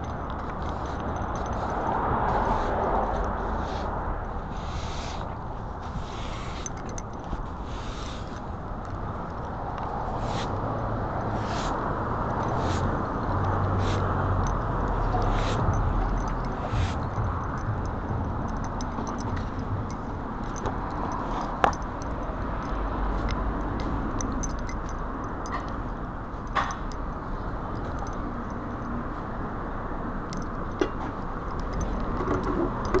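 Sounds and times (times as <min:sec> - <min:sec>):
street noise: 0:00.0 - 0:33.0.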